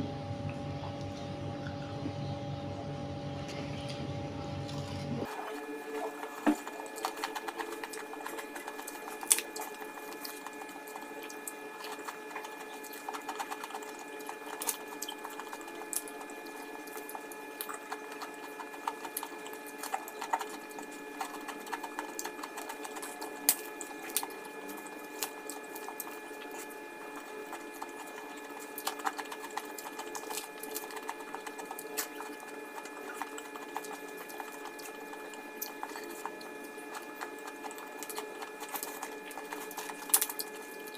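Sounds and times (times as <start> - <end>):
faint steady hum: 0.0 - 40.9
person chewing food: 6.0 - 40.9.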